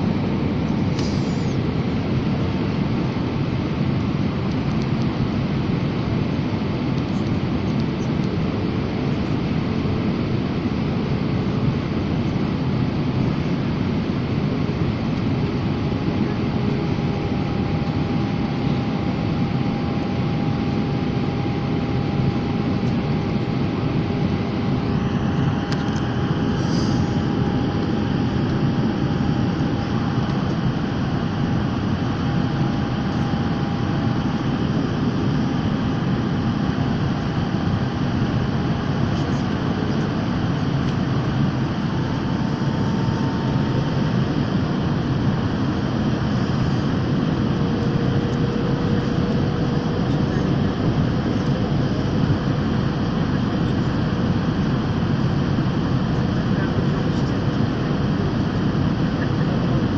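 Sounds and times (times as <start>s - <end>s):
aircraft cabin engine rush: 0.0s - 59.9s.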